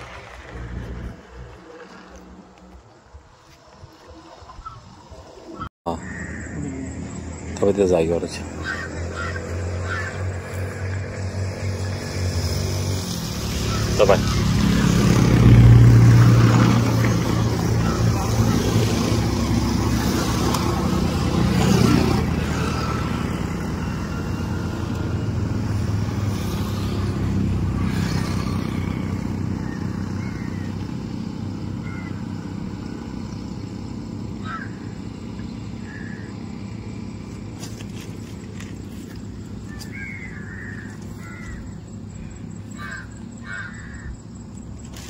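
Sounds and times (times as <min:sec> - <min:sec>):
vehicle engine running: 0:06.1 - 0:45.0.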